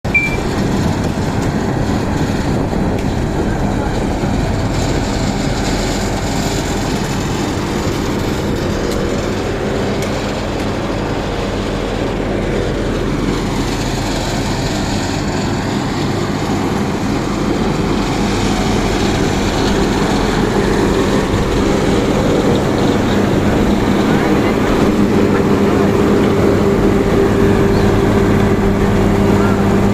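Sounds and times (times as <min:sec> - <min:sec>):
heavy diesel machinery running: 0:00.0 - 0:29.9.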